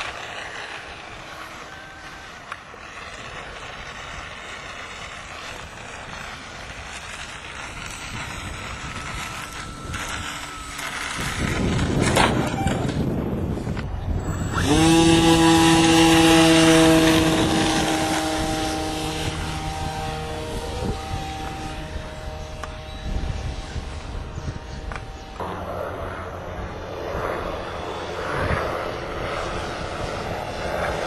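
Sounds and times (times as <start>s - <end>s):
model airplane engine: 0.0s - 31.0s
wind noise on microphone: 2.9s - 31.0s.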